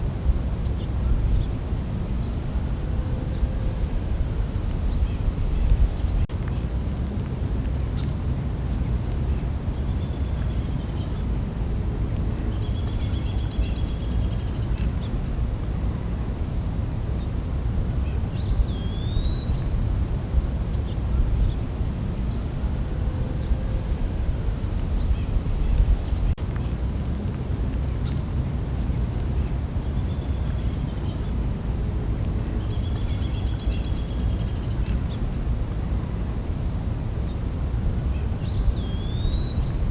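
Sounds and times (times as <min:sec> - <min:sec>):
cricket chirping: 0:00.0 - 0:39.9
high insect drone: 0:00.0 - 0:39.9.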